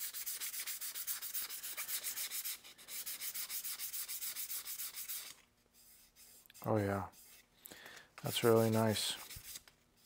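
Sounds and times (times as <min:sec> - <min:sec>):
sandpaper rubbing: 0:00.0 - 0:07.4, 0:08.3 - 0:10.0.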